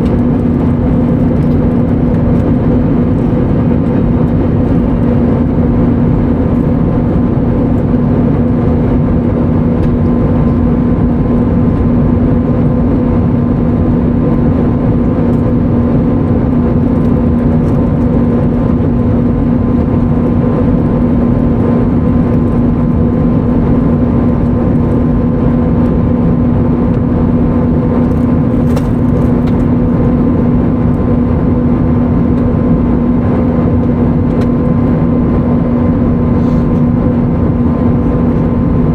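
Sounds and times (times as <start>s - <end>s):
airplane cabin engine rumble: 0.0s - 38.9s
constant low hum: 0.0s - 38.9s.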